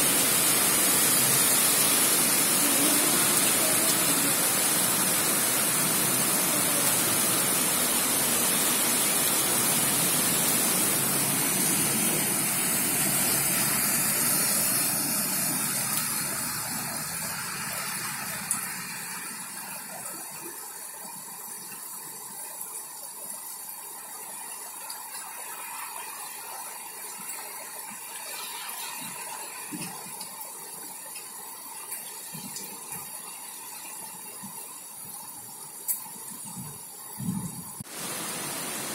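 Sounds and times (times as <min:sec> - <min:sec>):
heavy rain on street: 0:00.0 - 0:38.9.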